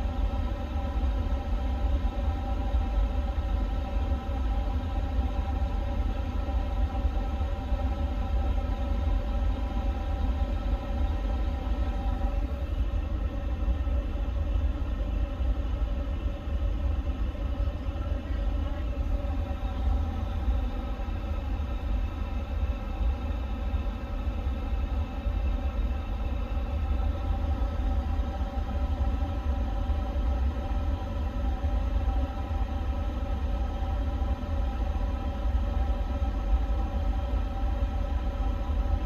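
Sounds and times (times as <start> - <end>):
fan-like whining tones: 0.0 - 39.0.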